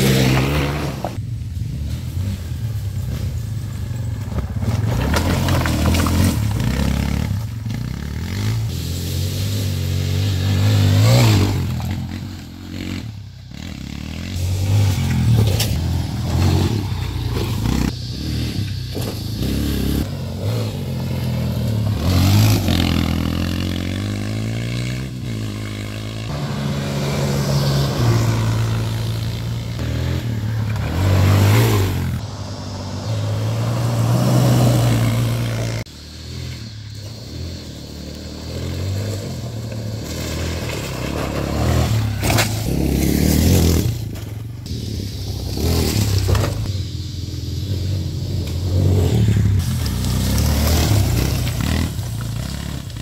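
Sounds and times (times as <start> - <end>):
quad engine revving: 0.0 - 2.4, 4.5 - 46.8, 47.4 - 53.0.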